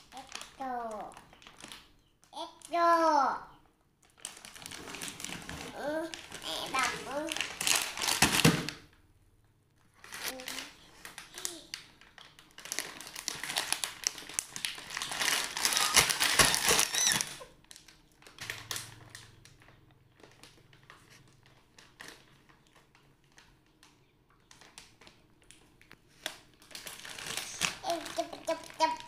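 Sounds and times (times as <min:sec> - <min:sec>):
plastic wrapper crinkling: 0:00.0 - 0:02.7, 0:04.0 - 0:09.0, 0:09.8 - 0:29.0.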